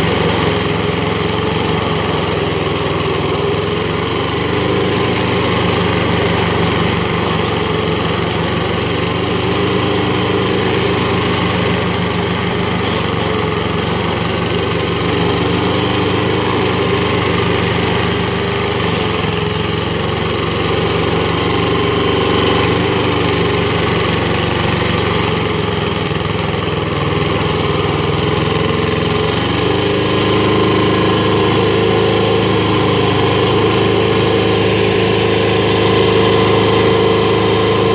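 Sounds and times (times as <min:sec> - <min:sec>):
cutter wheel grinding wood: 0:00.0 - 0:37.9
stump grinder engine running: 0:00.0 - 0:37.9.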